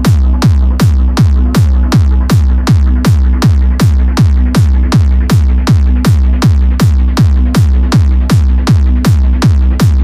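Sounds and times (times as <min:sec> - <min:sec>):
deep bass: 0:00.0 - 0:10.0
electronic dance music: 0:00.0 - 0:10.0
heavy kick drum: 0:00.0 - 0:10.0.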